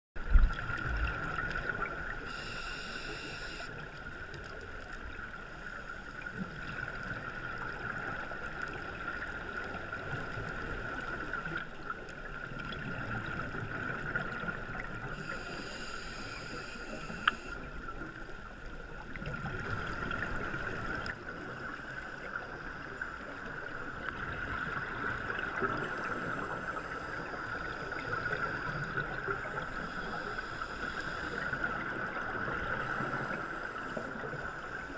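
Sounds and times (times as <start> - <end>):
high-pitched underwater hum: 0.2 - 11.9, 12.5 - 34.9
constant hiss: 0.2 - 34.9.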